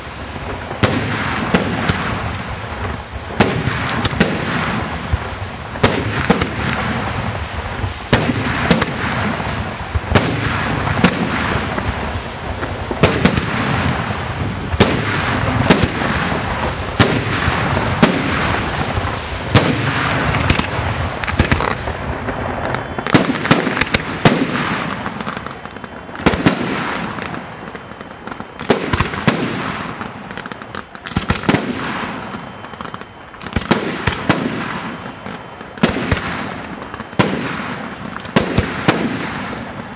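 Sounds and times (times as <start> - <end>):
dense firework crackle: 0.0 - 39.9.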